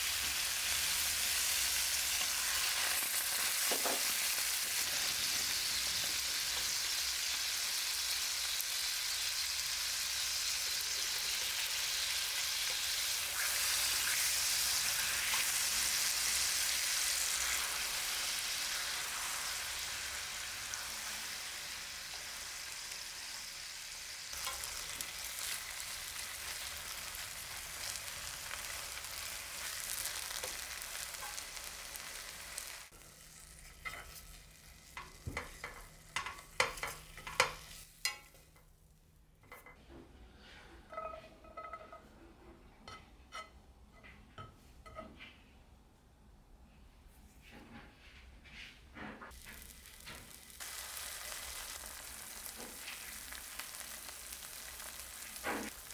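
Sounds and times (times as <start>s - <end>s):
food sizzling in a frying pan: 0.0s - 38.6s, 49.3s - 55.9s.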